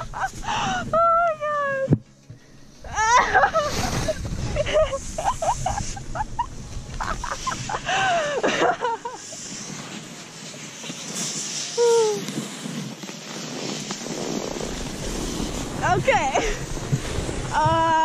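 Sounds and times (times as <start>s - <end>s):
skis and boots in deep snow: 3.0s - 18.0s.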